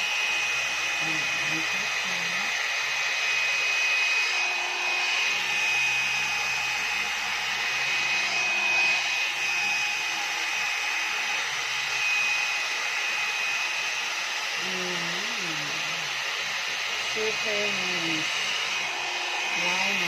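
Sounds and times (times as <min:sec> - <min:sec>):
hot-air brush blowing with motor whine: 0:00.0 - 0:20.0.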